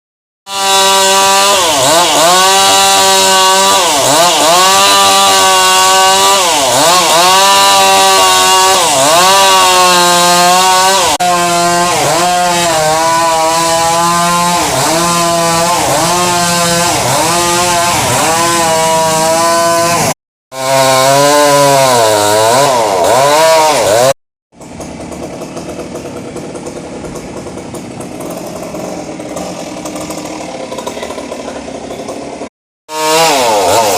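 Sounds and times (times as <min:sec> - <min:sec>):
chainsaw cutting wood: 0:00.5 - 0:33.9.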